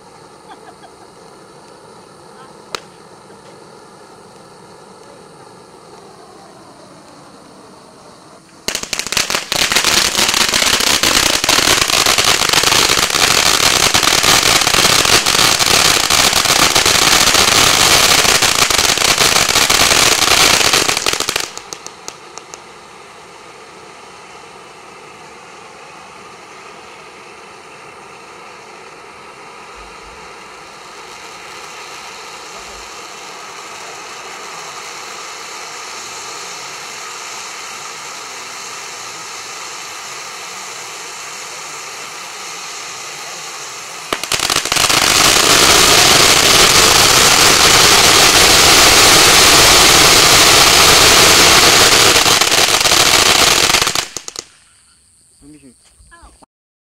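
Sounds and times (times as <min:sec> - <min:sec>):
loud firework crackling: 0:00.0 - 0:54.7
firework fountain hissing: 0:00.0 - 0:56.5.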